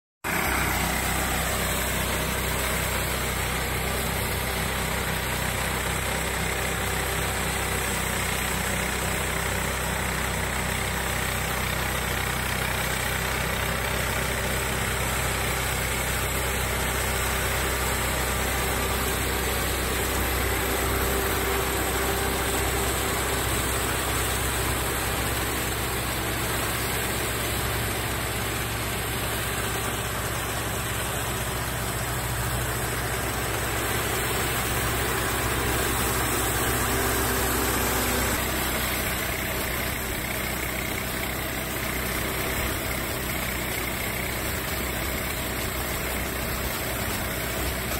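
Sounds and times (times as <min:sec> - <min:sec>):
harvester engine and machinery humming: 0:00.2 - 0:47.9.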